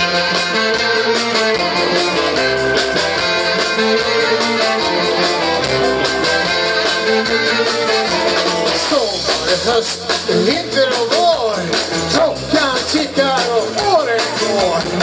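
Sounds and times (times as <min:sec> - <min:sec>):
electric guitars: 0:00.0 - 0:15.0
live rock band playing: 0:00.0 - 0:15.0.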